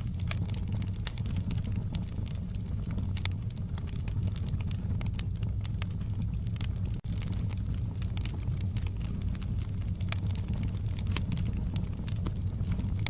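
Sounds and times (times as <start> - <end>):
low rumble of fire: 0.0 - 13.0
wood fire crackling: 0.0 - 13.0.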